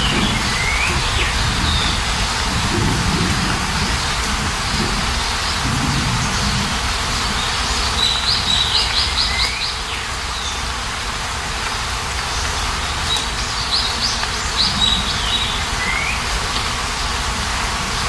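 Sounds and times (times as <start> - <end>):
songbird singing: 0.0 - 10.8, 12.2 - 17.2
falling rain hiss: 0.0 - 18.0.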